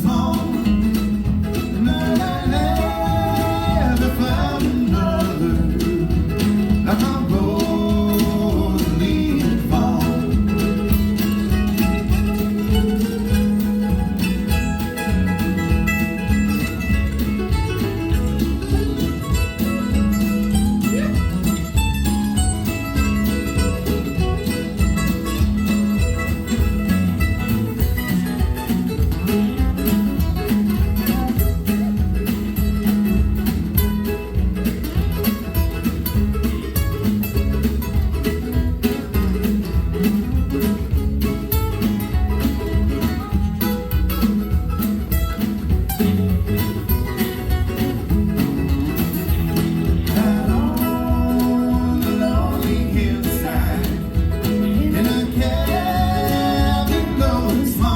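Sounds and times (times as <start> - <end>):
bluegrass band playing: 0.0 - 57.9
picked guitar: 0.0 - 57.9.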